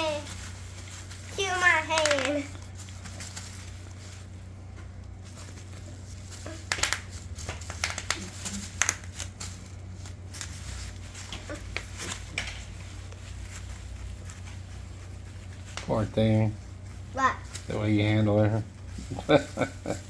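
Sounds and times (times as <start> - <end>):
bubble wrap popping: 0.0 - 20.0.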